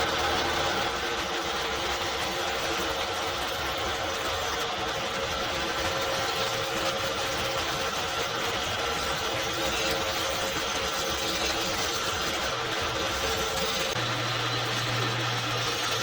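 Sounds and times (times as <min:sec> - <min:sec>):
electric power tool running: 0:00.0 - 0:16.0.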